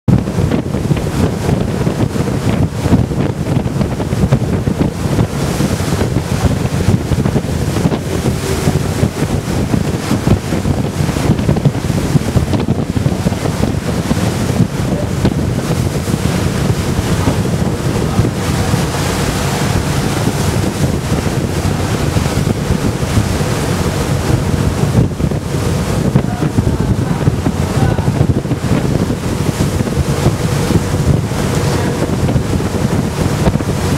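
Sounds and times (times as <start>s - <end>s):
waves slapping against hull: 0.1s - 33.9s
wind buffeting microphone: 0.1s - 33.9s.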